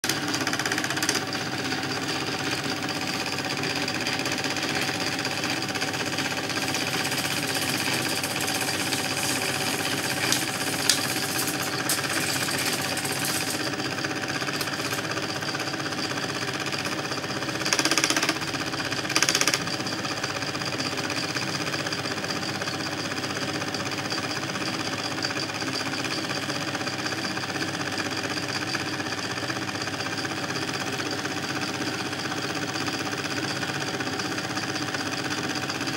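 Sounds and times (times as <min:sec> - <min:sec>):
film projector rattling: 0:00.0 - 0:35.9.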